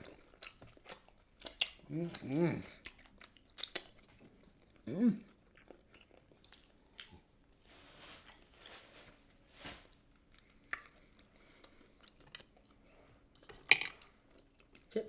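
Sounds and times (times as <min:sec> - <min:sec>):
person chewing food: 0:00.0 - 0:07.6, 0:09.9 - 0:14.9.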